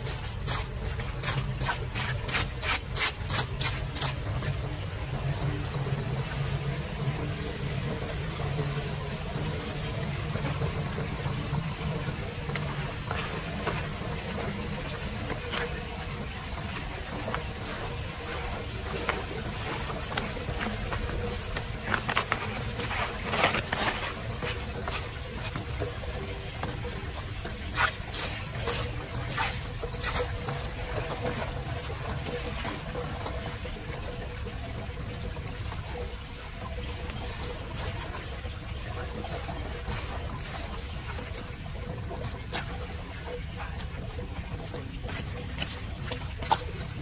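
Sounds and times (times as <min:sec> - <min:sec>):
splashes and clatter of debris: 0:00.0 - 0:47.0
water trickling through drain grate: 0:00.0 - 0:47.0.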